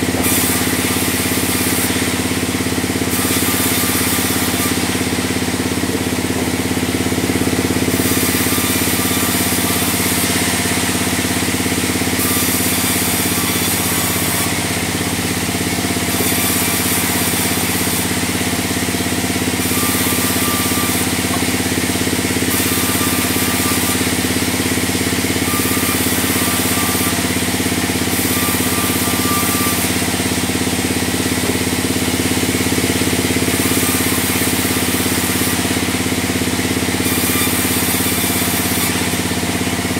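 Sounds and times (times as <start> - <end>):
saw blade cutting logs: 0.0 - 39.9
sawmill machine hum: 0.0 - 39.9.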